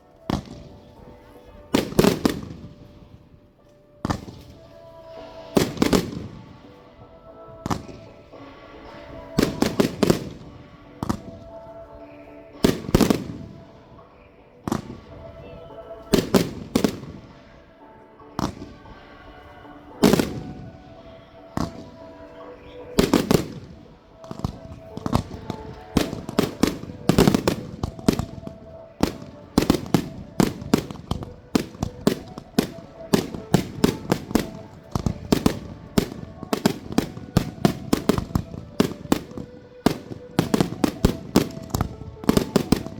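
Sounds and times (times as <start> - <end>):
fireworks bangs and crackles: 0.1 - 42.9.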